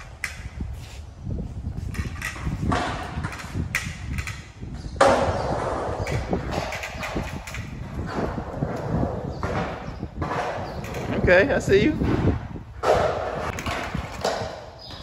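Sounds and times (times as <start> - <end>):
scooter wheels rolling on concrete: 0.0 - 15.0.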